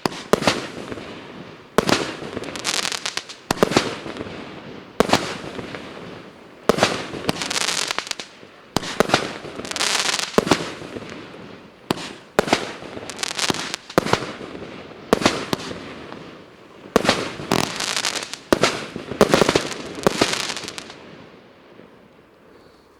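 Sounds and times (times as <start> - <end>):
firework shots banging: 0.0 - 21.2
firework bursts: 0.0 - 22.1.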